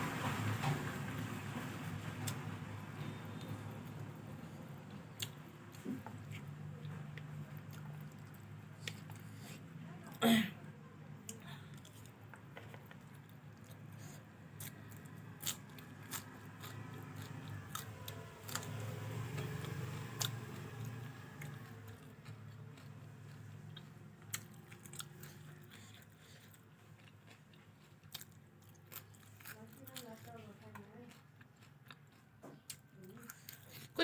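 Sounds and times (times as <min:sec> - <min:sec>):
person chewing food: 0:01.9 - 0:09.7, 0:11.2 - 0:34.0.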